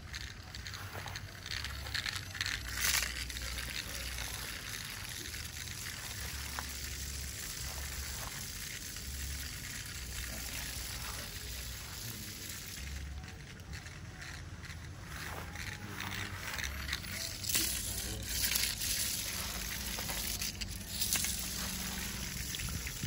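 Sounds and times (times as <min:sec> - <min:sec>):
toy centipede scuttling hiss: 0:00.0 - 0:23.0.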